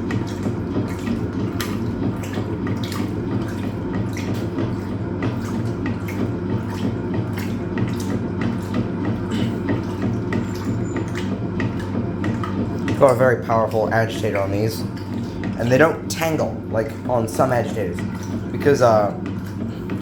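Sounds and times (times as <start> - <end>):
low motor hum: 0.0 - 20.0
water dripping: 0.0 - 20.0
water sloshing and splashing: 0.0 - 20.0.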